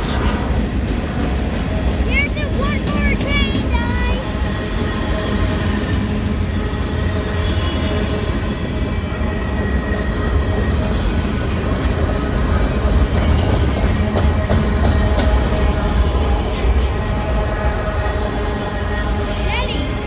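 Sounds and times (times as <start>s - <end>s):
train running on rails: 0.0s - 20.0s.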